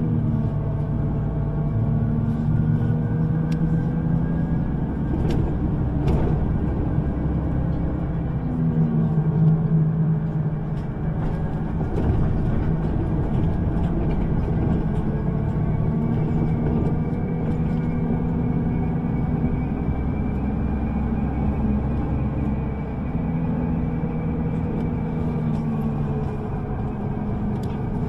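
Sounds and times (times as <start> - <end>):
bus drive hum: 0.0 - 28.0
low rumble of the ride: 0.0 - 28.0.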